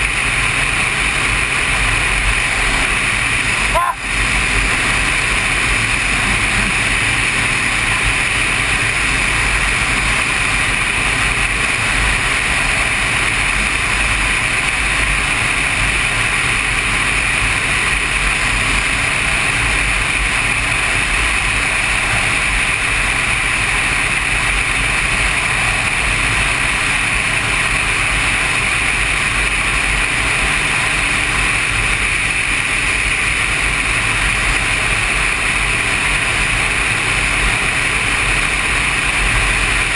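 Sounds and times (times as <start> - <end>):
motorcycle engine and wind rush: 0.0 - 39.9.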